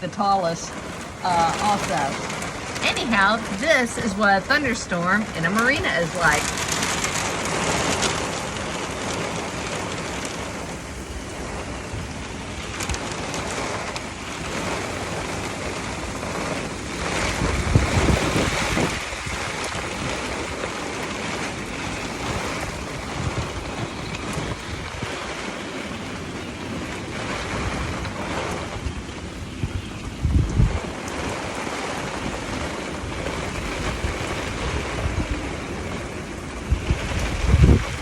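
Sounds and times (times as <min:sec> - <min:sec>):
rain: 0:00.0 - 0:38.0
wind: 0:00.0 - 0:38.0
wind buffeting microphone: 0:00.0 - 0:38.0.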